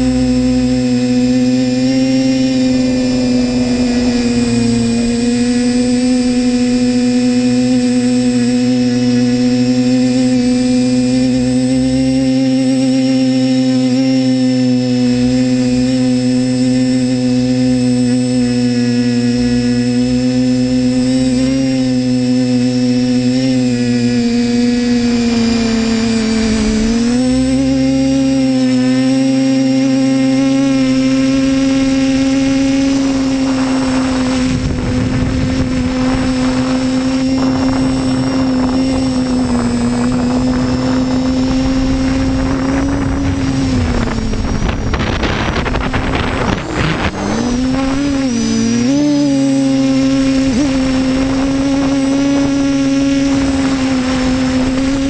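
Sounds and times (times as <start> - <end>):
wind buffeting microphone: 0.0 - 12.3, 14.5 - 55.0
drone propellers whining: 0.0 - 55.0.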